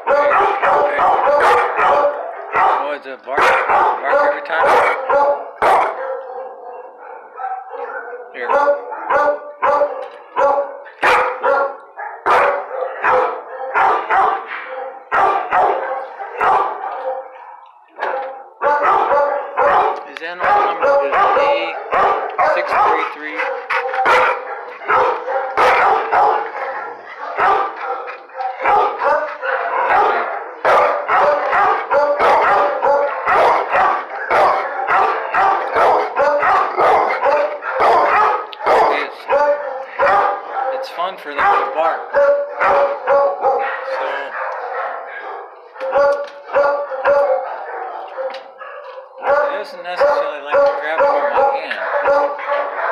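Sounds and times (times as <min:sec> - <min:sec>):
large dog barking: 0:00.0 - 0:52.9.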